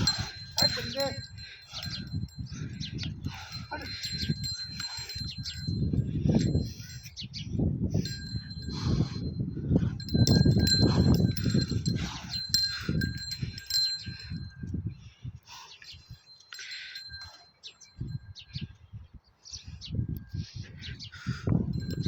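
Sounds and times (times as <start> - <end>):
small bells jingling: 0.0 - 18.8, 21.4 - 22.0.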